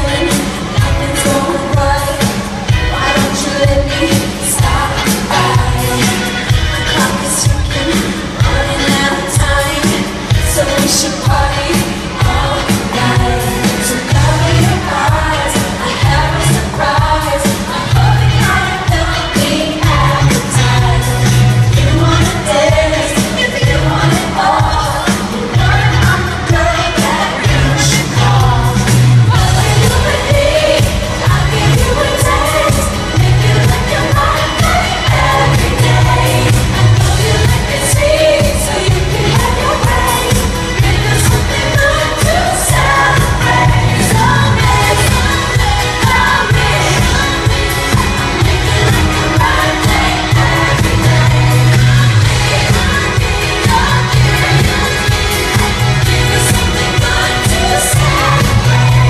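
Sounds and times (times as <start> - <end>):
crowd singing along: 0.0 - 59.0
live band with heavy bass: 0.0 - 59.0
woman singing lead: 0.0 - 59.0.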